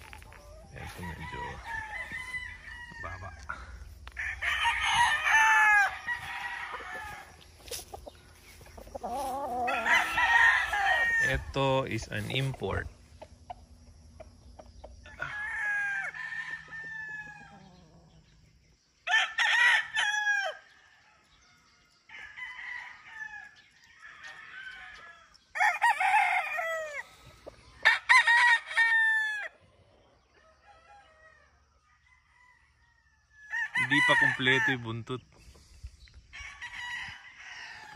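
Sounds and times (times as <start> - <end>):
roosters crowing: 0.0 - 12.8, 14.2 - 18.4, 19.0 - 37.9.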